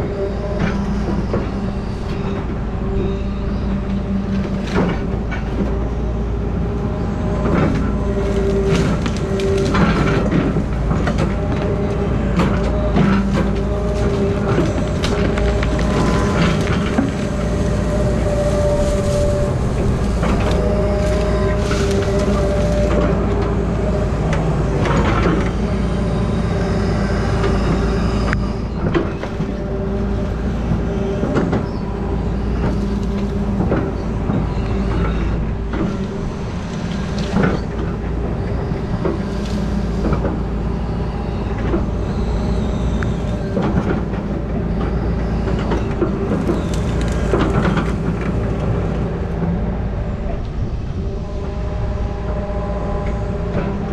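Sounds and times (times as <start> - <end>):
machine engine and hydraulic whine: 0.0 - 53.9.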